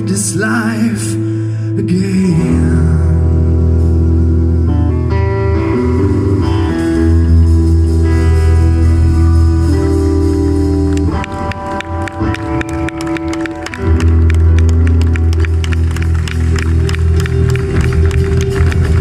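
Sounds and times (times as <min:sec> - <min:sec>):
bass guitar: 0:00.0 - 0:19.0
electric guitar: 0:00.0 - 0:19.0
organ chords: 0:00.0 - 0:19.0
drums: 0:02.1 - 0:19.0.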